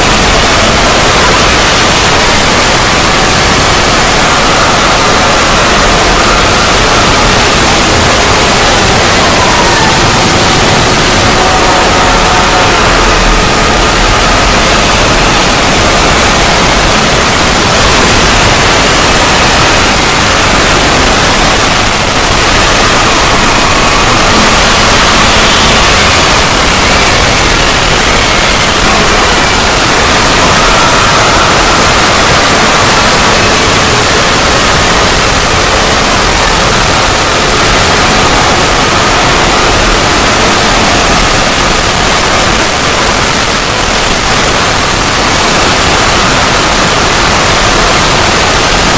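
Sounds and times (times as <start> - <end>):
harsh static-like noise: 0.0 - 48.9.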